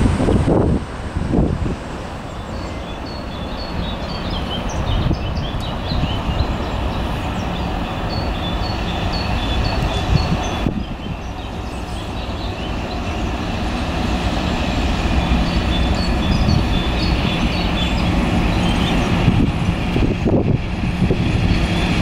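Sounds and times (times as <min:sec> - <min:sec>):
diesel locomotive engine rumbling: 0:00.0 - 0:22.0.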